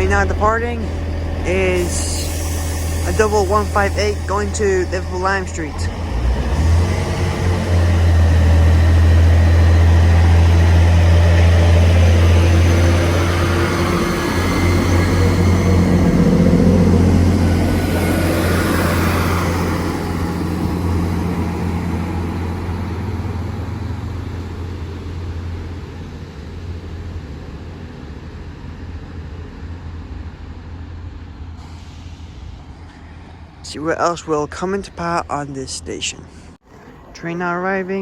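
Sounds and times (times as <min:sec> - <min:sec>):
train diesel engines droning: 0:00.0 - 0:38.0.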